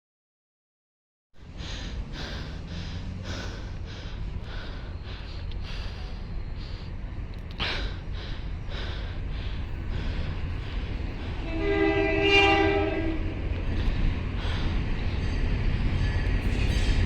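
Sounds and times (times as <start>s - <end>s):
rhythmic breathy hissing: 1.4s - 11.7s, 13.1s - 17.0s
diesel locomotive rumble: 1.4s - 17.0s.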